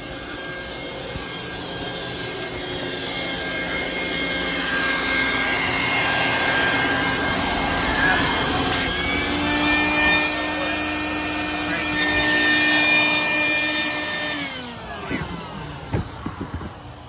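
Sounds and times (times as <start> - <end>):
shop vacuum whining: 0.0 - 17.0.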